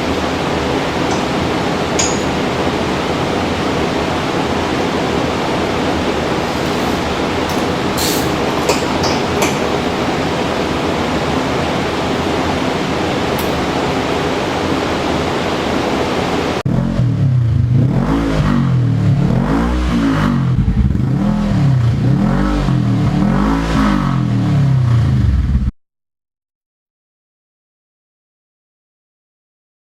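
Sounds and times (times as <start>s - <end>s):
engine rumble and throttle blips: 0.0s - 25.7s.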